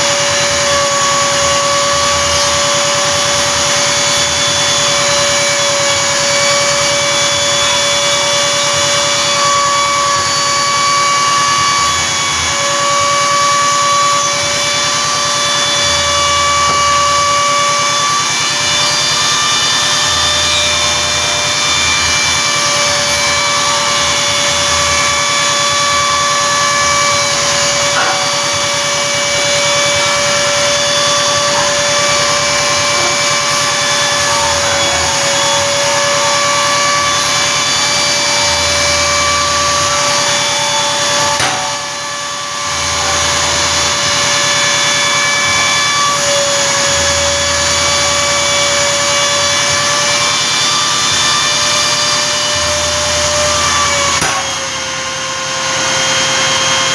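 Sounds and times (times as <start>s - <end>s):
router spindle whining: 0.0s - 56.9s.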